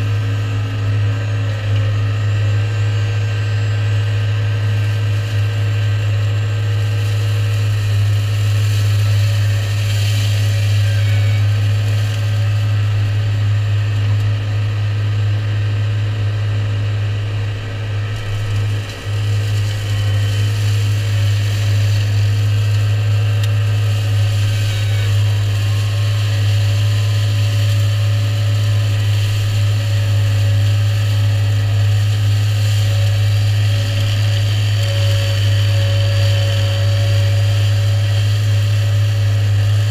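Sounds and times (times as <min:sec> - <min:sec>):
tractor running with flail mower: 0:00.0 - 0:39.9.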